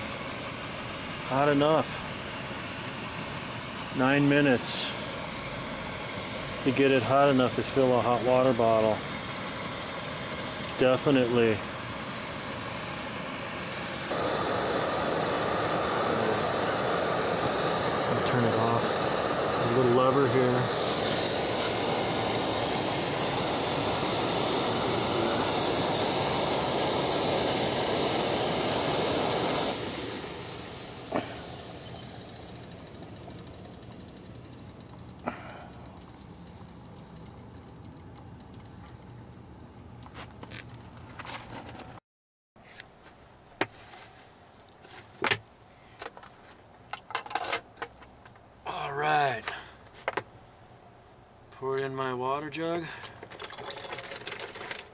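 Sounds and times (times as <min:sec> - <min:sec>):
camp stove hissing: 0:00.0 - 0:40.9, 0:48.7 - 0:49.9, 0:52.6 - 0:54.9.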